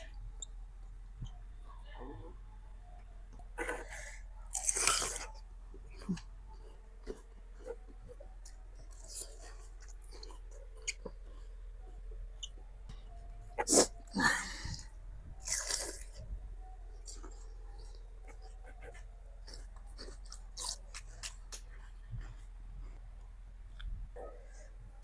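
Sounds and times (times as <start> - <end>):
chewing and crunching fruit: 3.0 - 25.0.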